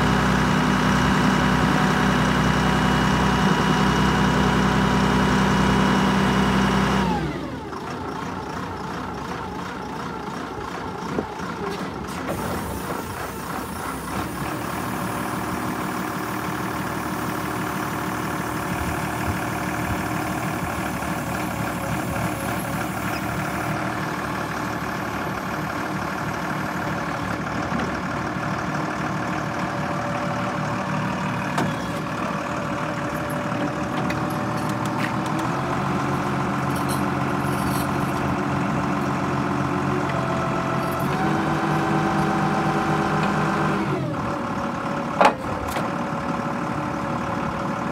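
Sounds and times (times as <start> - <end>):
diesel engine revving: 0.0 - 8.6, 11.1 - 47.9.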